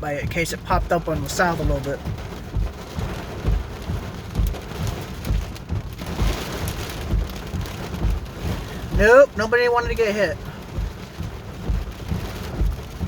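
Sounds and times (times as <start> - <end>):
low thumps of rain: 0.0 - 13.0
rain hissing on a car: 0.0 - 13.0.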